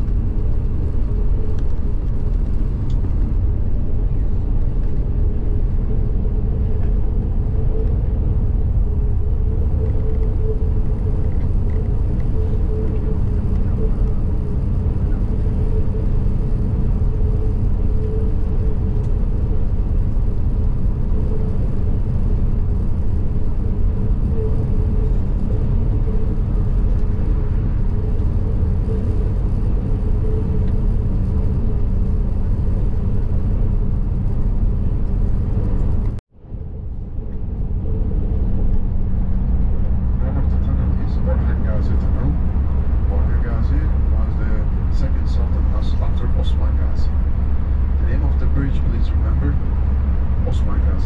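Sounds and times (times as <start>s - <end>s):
engine and tyre rumble in car: 0.0s - 51.0s.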